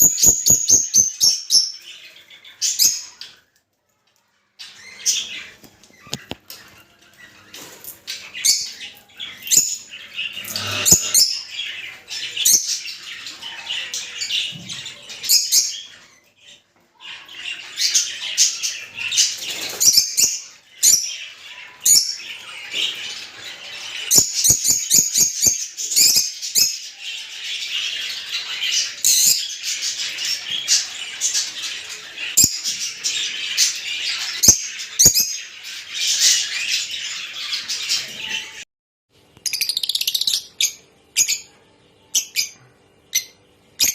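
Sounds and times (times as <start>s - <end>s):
birds chirping and squawking: 0.0s - 43.9s.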